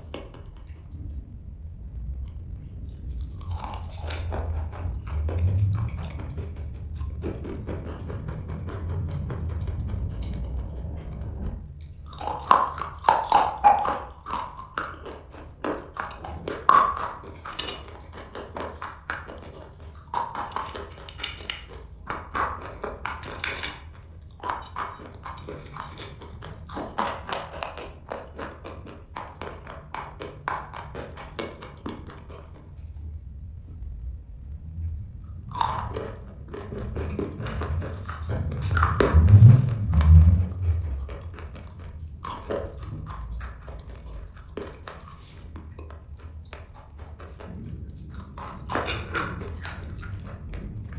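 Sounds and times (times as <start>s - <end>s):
chewing crunchy chalk: 2.8s - 33.0s, 35.2s - 50.9s.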